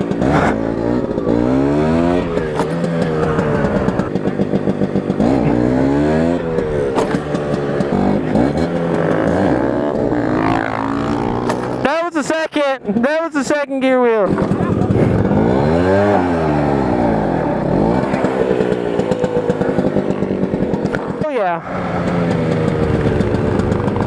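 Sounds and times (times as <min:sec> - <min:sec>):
scooter engine revving: 0:00.0 - 0:12.0, 0:13.8 - 0:24.0.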